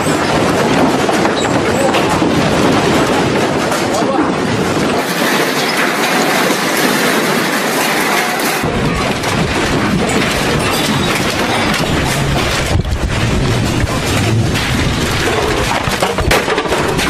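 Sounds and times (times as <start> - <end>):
deep earthquake rumble: 0.0 - 17.0
furniture rattling and clattering: 0.0 - 17.0.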